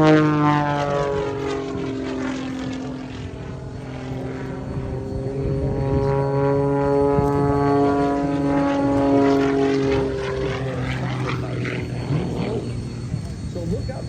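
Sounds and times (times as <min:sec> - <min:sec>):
propeller plane engine passing overhead: 0:00.0 - 0:14.0.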